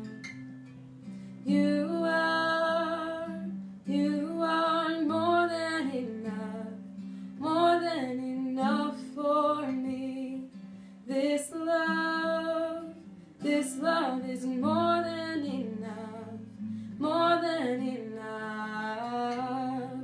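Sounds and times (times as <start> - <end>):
woman singing slow song: 0.0 - 0.3, 1.4 - 20.0
acoustic guitar: 0.0 - 20.0.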